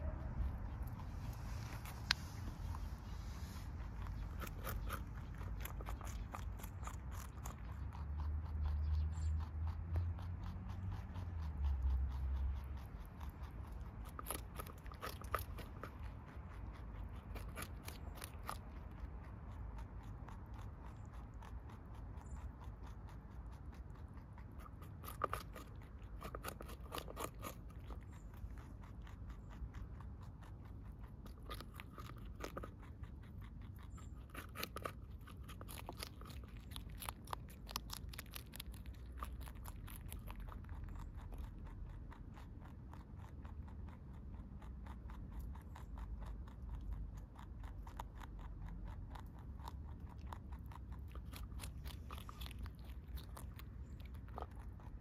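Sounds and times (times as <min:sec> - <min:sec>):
rabbit munching vegetables: 0:00.0 - 0:55.0.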